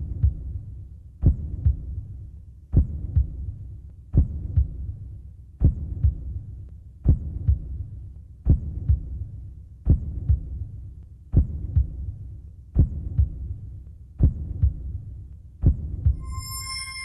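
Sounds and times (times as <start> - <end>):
heartbeat thumps: 0.0 - 0.6, 1.2 - 5.0, 5.6 - 6.4, 7.0 - 16.8.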